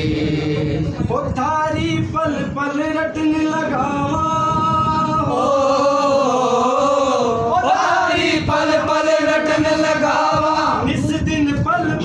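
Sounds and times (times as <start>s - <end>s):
voices singing devotional song: 0.0s - 12.0s.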